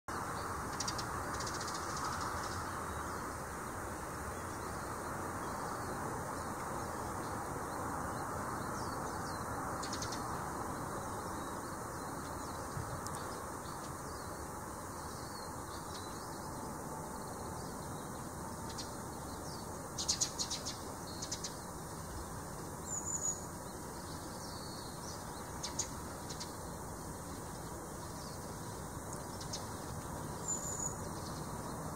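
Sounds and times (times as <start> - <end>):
sparrows chirping: 0.1 - 31.9
steady background hiss: 0.1 - 31.9.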